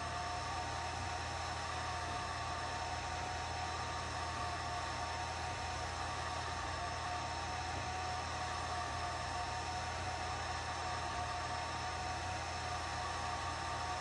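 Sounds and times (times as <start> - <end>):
laser engraver whirring: 0.0 - 14.0.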